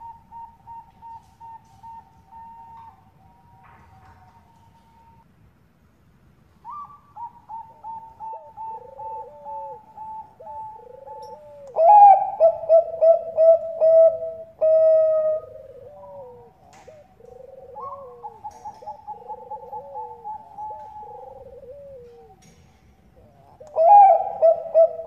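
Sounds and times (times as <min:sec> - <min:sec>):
dove cooing song: 0:00.0 - 0:05.2, 0:06.6 - 0:25.0.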